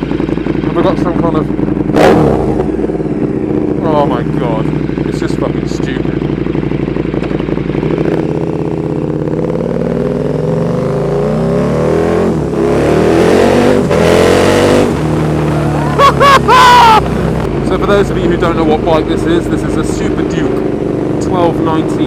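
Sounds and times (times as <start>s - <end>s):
loud motorcycle engine revving: 0.0s - 22.0s.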